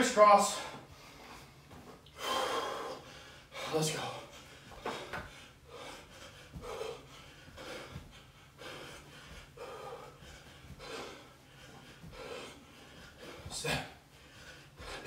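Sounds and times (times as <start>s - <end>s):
man breathing hard: 0.4s - 15.0s.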